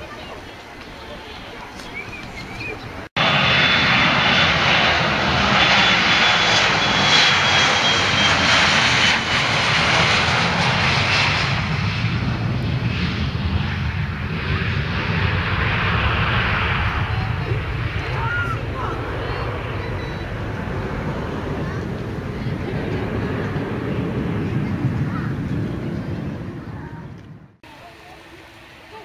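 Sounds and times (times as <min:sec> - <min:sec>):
jet engine rush: 0:00.0 - 0:28.9
high jet engine whine: 0:00.0 - 0:29.0.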